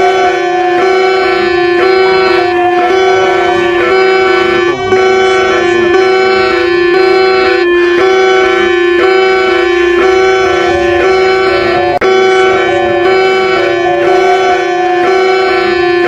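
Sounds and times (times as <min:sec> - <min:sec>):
emergency alert tone: 0:00.0 - 0:16.0.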